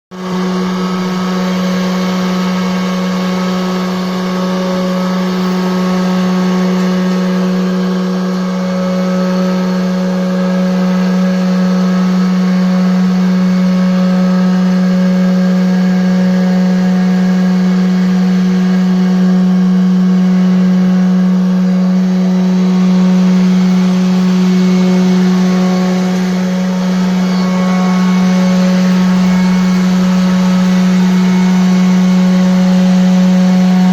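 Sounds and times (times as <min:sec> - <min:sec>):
router spindle cutting wood: 0:00.2 - 0:33.9.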